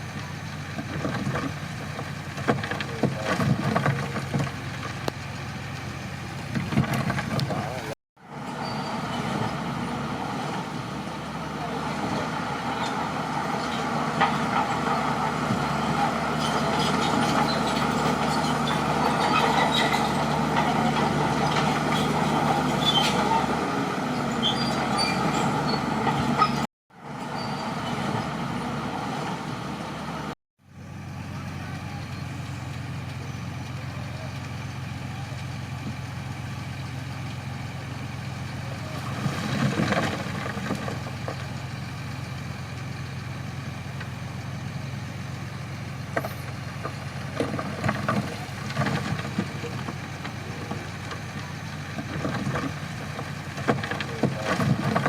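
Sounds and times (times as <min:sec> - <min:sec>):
bulldozer diesel engines running: 0:00.0 - 0:55.0.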